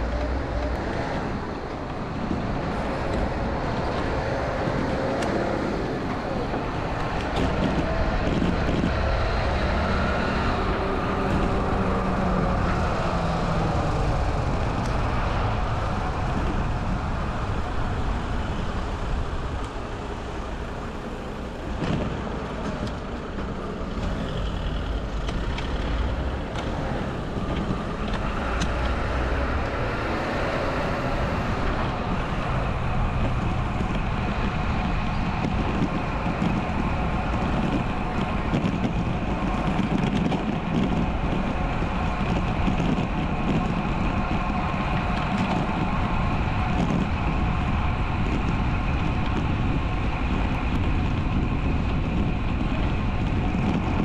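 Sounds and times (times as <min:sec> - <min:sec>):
motor vehicles passing: 0:00.0 - 0:54.0.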